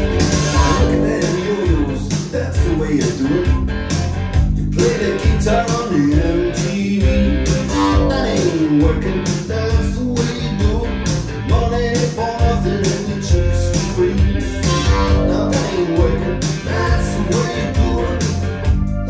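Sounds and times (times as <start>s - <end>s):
song with guitar and singing: 0.0s - 19.0s.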